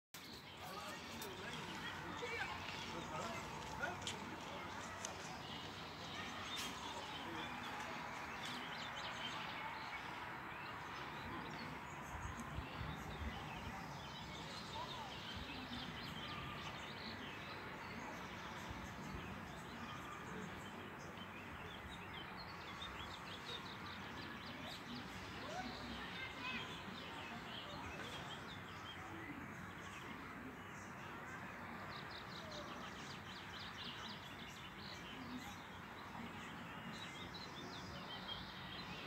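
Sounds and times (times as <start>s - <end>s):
small birds chirping: 0.1s - 39.0s.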